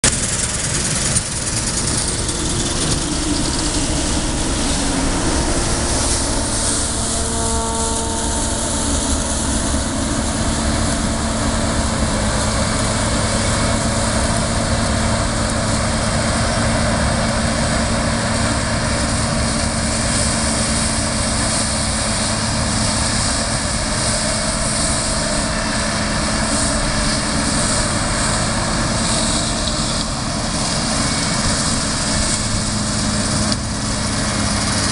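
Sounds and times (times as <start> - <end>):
combine harvester engine hum: 0.0 - 34.9
threshing machinery noise: 0.0 - 34.9.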